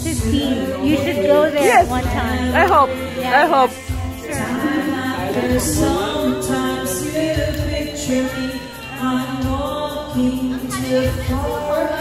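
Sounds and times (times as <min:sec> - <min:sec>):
backing music: 0:00.0 - 0:12.0
woman singing into microphone: 0:00.0 - 0:12.0.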